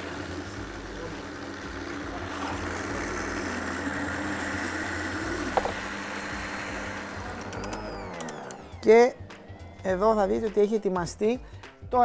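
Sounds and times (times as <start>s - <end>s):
blender running: 0.0s - 11.5s.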